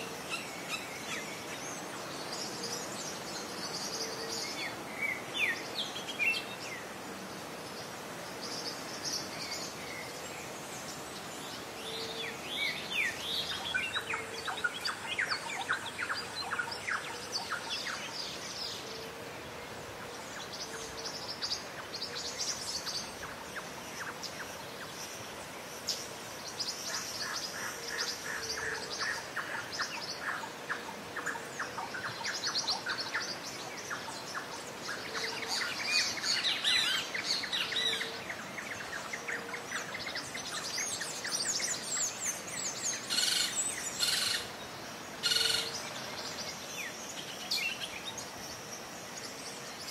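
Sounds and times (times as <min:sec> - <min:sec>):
background hiss: 0:00.0 - 0:49.9.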